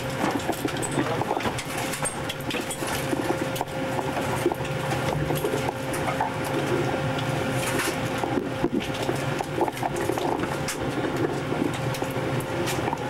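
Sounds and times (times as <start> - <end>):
machinery and ventilation hum: 0.0 - 13.0.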